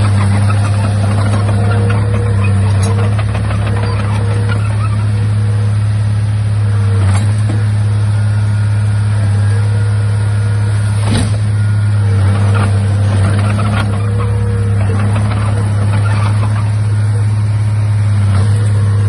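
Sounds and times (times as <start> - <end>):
bulldozer diesel engine humming: 0.0 - 19.0.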